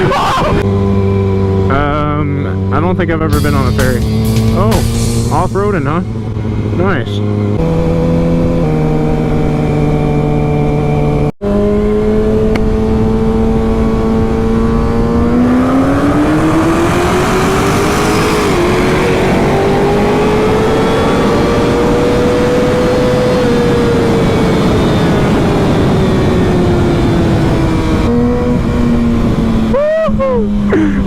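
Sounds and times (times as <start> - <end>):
motorcycle engine accelerating: 0.0 - 31.0
wind rush: 4.4 - 30.7.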